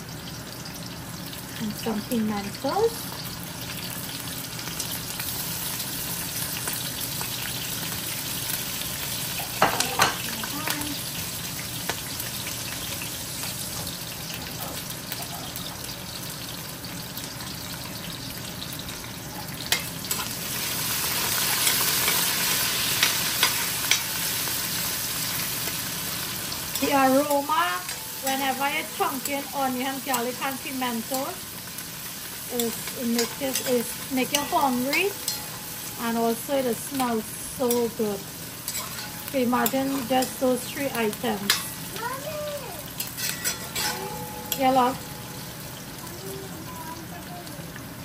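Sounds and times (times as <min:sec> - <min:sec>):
vegetables sizzling in hot oil: 0:00.0 - 0:48.0.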